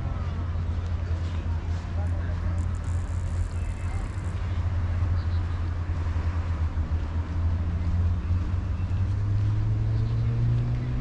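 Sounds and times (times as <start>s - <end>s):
street noise: 0.0s - 11.0s
vehicle engine hum: 0.0s - 11.0s.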